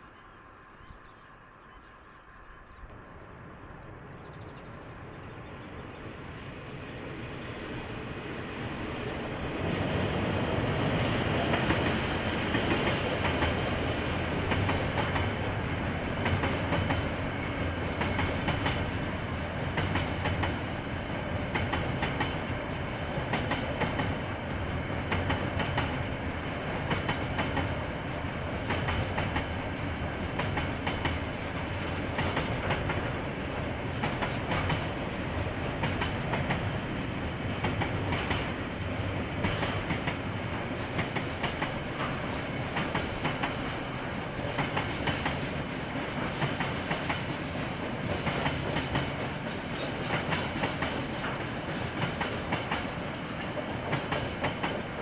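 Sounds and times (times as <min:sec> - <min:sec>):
train wheels rumbling on rail: 0:02.7 - 0:55.0.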